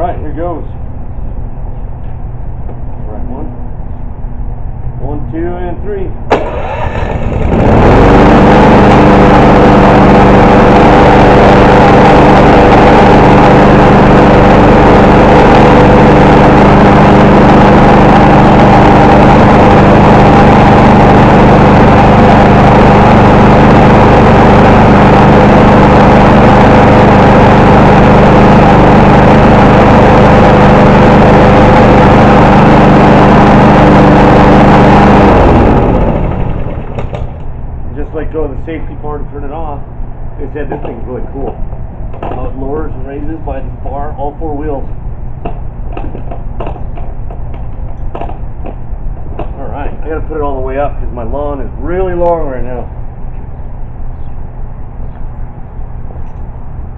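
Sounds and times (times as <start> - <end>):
engine spinning down: 6.3 - 56.9
lawn mower engine running: 6.3 - 56.9.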